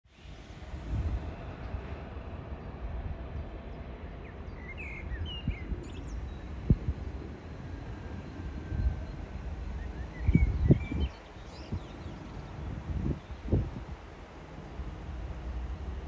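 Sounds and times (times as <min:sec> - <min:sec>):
steady low rumble: 0:00.1 - 0:16.0.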